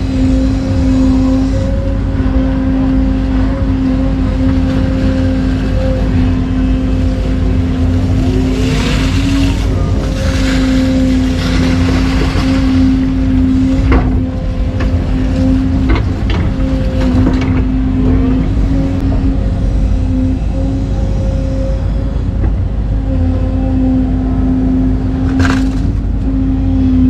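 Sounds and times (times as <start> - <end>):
diesel engine running under load: 0.0 - 27.0
steady whine: 0.0 - 27.0.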